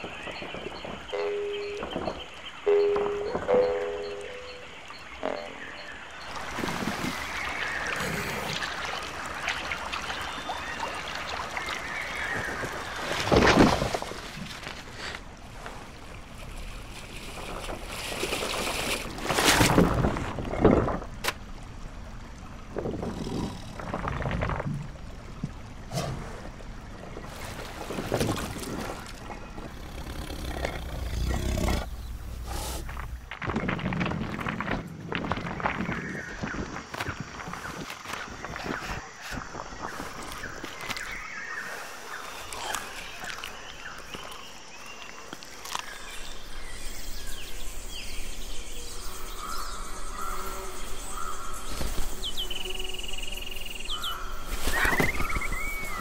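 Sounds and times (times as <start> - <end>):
water splashing and gurgling: 0.0 - 56.0.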